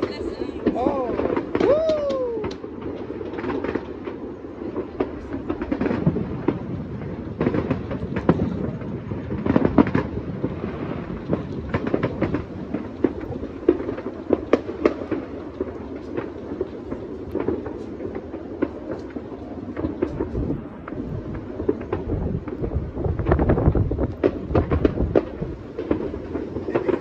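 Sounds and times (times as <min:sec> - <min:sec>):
sharp firecracker pops: 0:00.0 - 0:04.2, 0:07.3 - 0:27.0
rumble of overlapping firework bangs: 0:00.0 - 0:27.0.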